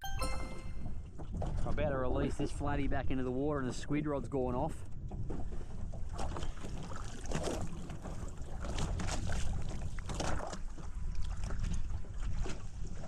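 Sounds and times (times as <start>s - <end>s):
water splashing against boat: 1.2s - 13.0s.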